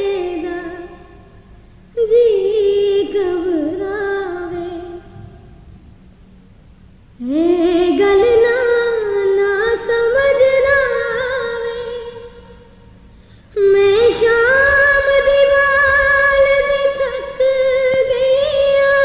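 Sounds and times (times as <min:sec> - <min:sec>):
woman singing a slow lament: 0:00.0 - 0:01.3, 0:02.0 - 0:05.2, 0:07.2 - 0:12.7, 0:13.5 - 0:19.0.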